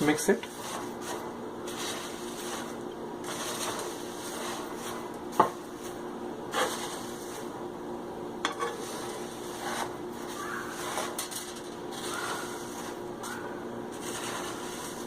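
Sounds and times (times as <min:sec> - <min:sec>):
spoon stirring dry mix in pan: 0:00.0 - 0:07.5, 0:08.5 - 0:13.0, 0:13.9 - 0:15.0.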